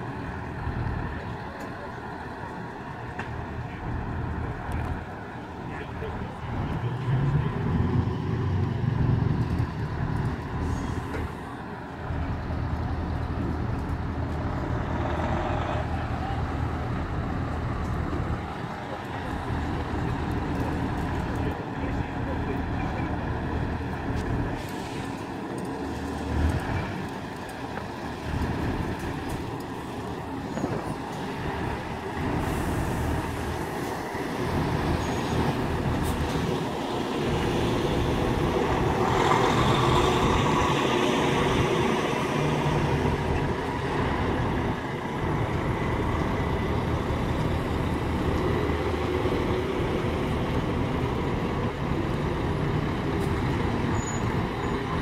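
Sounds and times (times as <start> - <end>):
diesel truck engines pulling away: 0.0 - 55.0.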